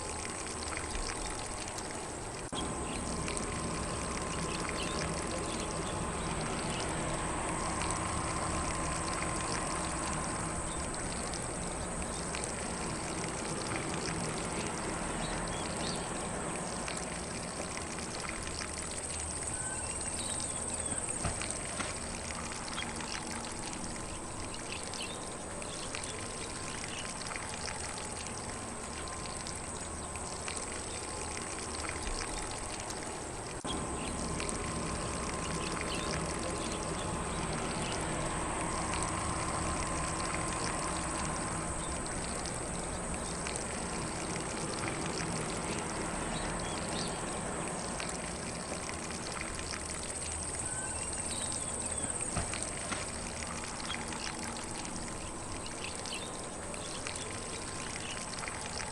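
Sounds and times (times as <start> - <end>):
lawn sprinkler spray hissing: 0.0 - 58.9.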